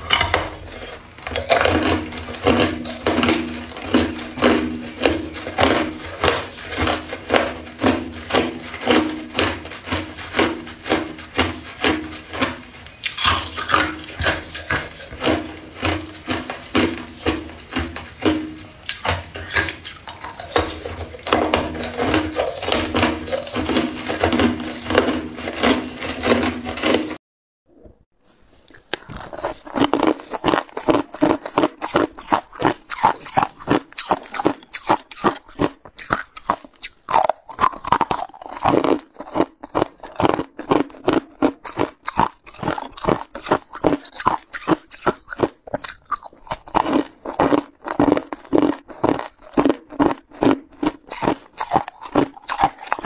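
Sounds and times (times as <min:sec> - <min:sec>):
ice crunched between teeth: 0:00.0 - 0:27.2, 0:28.6 - 0:53.0.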